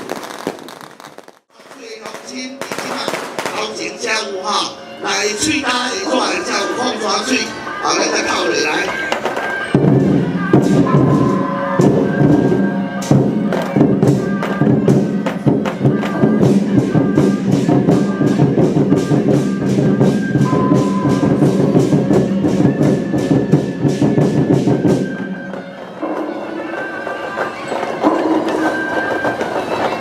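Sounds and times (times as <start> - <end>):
drum cymbals and gongs beat: 1.6 - 30.0
reed horn sustained notes: 3.8 - 30.0.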